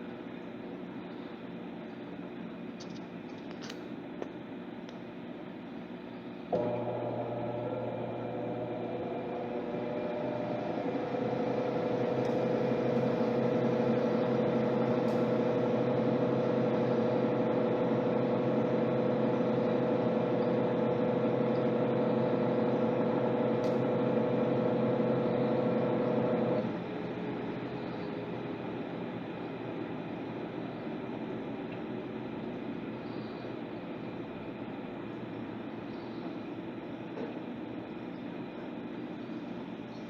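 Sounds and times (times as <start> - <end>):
washing machine motor humming: 5.4 - 40.0.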